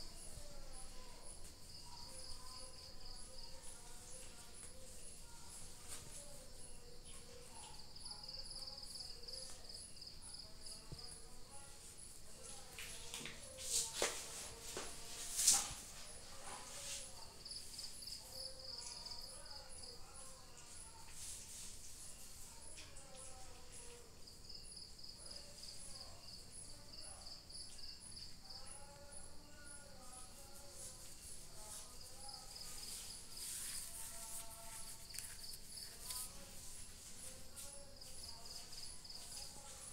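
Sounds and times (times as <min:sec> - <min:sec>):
low insect trill: 0:00.0 - 0:12.7, 0:14.6 - 0:39.9
cricket chirping: 0:00.0 - 0:13.7, 0:14.6 - 0:39.9.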